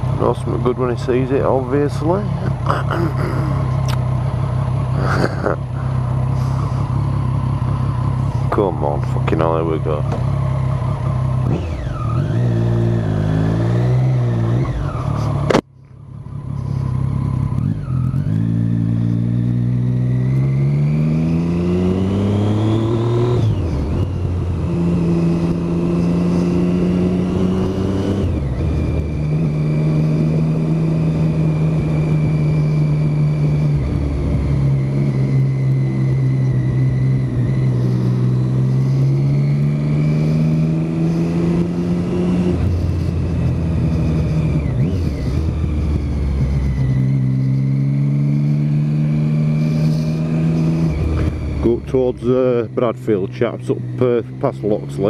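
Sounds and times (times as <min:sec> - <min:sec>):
motorcycle accelerating through gears: 0:00.0 - 0:55.0.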